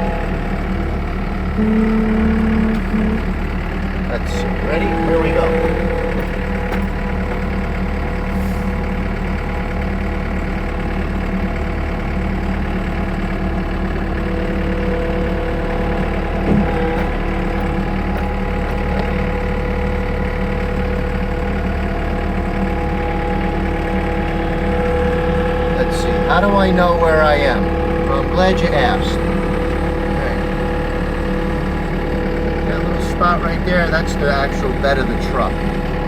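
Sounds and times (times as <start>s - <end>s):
skid steer engine running: 0.0s - 36.0s.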